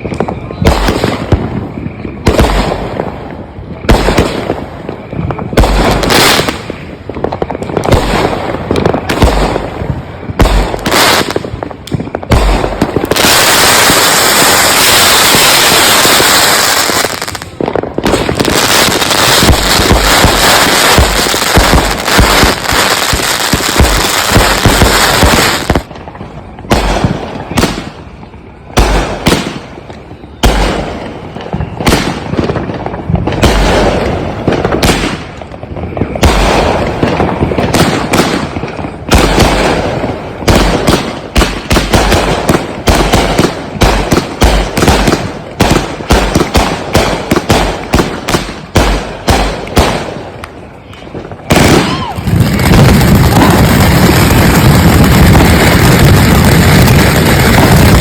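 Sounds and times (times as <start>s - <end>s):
fireworks launches and bangs: 0.0s - 58.0s.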